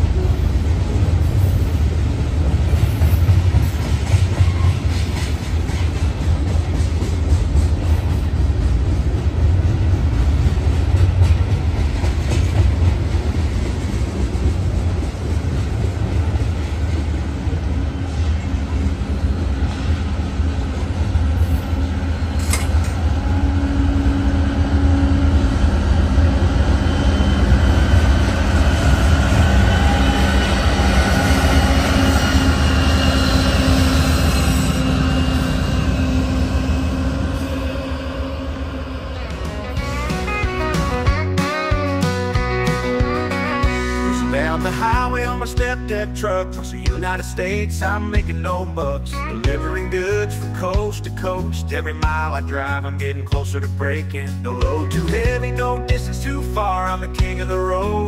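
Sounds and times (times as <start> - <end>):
freight train rumbling over bridge: 0.0 - 58.0.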